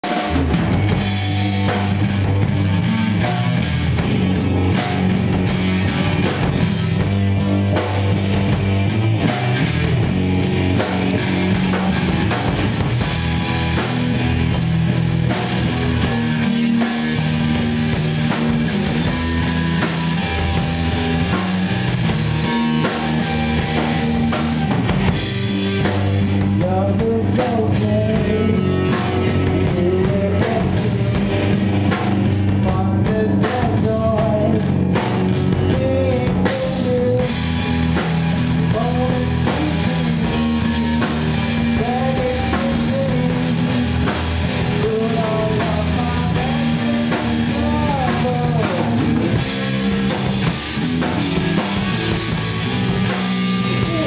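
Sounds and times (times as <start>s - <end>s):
bass guitar: 0.0s - 54.0s
distorted electric guitars: 0.0s - 54.0s
drum kit beat: 0.0s - 54.0s.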